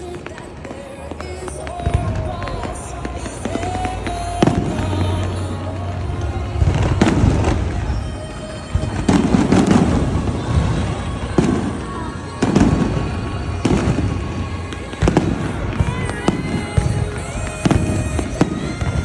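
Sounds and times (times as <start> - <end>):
background music: 0.0 - 19.0
fireworks bangs and booms: 0.0 - 19.0.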